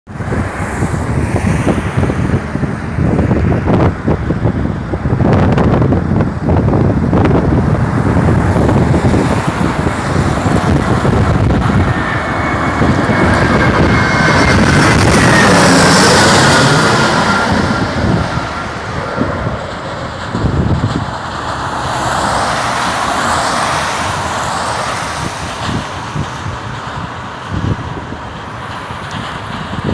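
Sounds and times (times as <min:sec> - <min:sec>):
jet airliner passing overhead: 0:00.1 - 0:29.9
wind buffeting microphone: 0:00.1 - 0:29.9.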